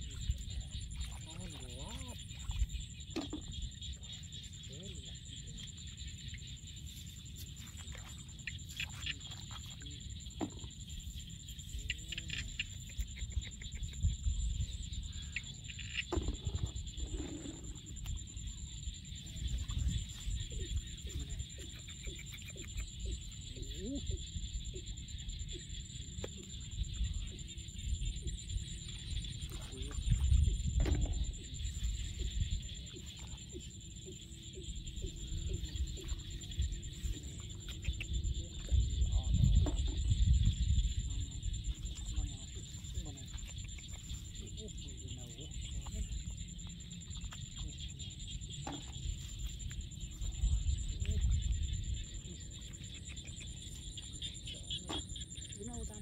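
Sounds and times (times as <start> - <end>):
wind rumble on microphone: 0.0 - 5.6, 6.2 - 56.0.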